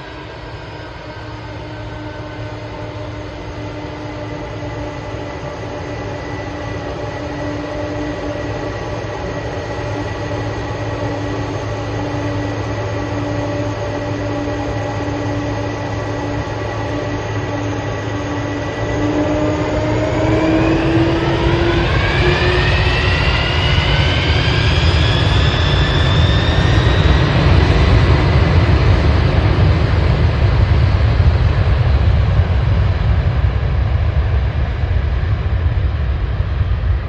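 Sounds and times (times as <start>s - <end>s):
jet engines roaring with whine: 0.0s - 37.0s.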